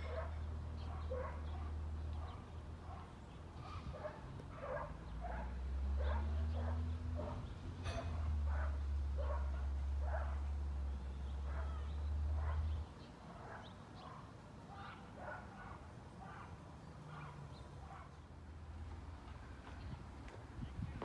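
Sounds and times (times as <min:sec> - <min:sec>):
dog barking: 0:00.0 - 0:10.6, 0:11.4 - 0:18.2.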